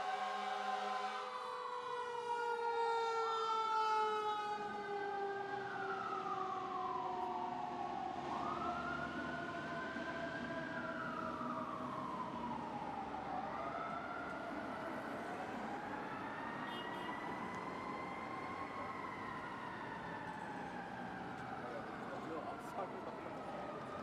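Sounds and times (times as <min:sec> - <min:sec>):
fire truck siren wailing: 0:00.0 - 0:24.0
steady siren tone falling in pitch: 0:00.0 - 0:24.0.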